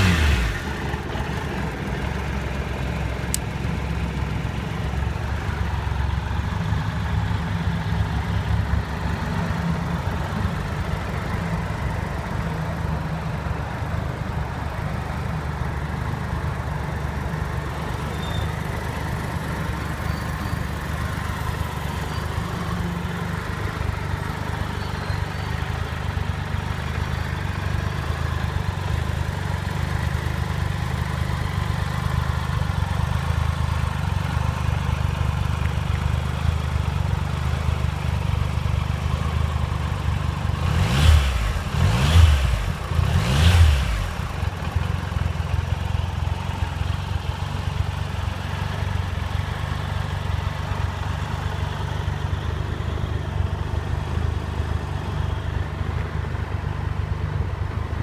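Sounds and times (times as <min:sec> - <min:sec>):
motorcycle engine idling: 0:00.0 - 0:40.7, 0:41.4 - 0:58.0.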